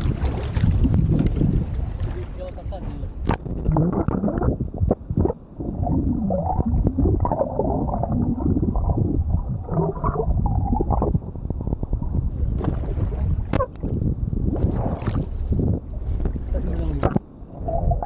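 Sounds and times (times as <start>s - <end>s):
low rumble of water: 0.0s - 18.0s.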